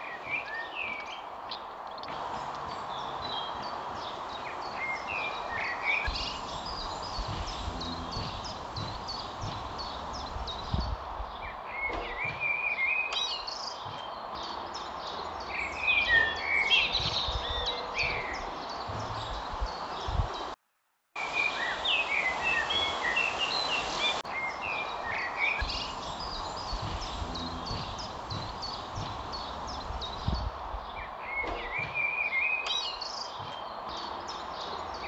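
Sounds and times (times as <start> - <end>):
songbirds chirping and singing: 0.0 - 20.6, 21.2 - 35.0
outdoor background hiss: 0.0 - 35.0.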